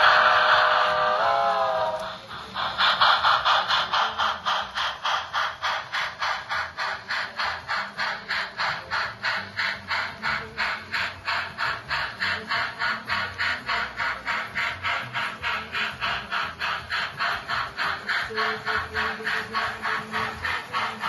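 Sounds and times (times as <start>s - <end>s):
train wheels clicking over rail joints: 0.0s - 21.0s.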